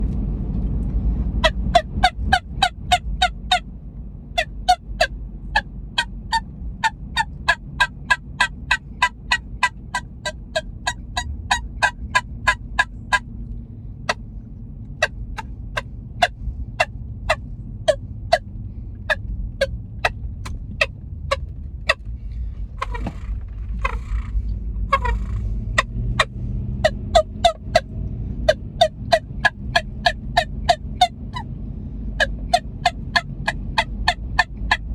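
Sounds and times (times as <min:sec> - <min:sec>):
turkey call notes: 0:01.4 - 0:03.6, 0:04.4 - 0:13.2, 0:15.0 - 0:22.0, 0:22.8 - 0:23.2, 0:23.8 - 0:24.3, 0:24.9 - 0:31.5, 0:32.1 - 0:34.9.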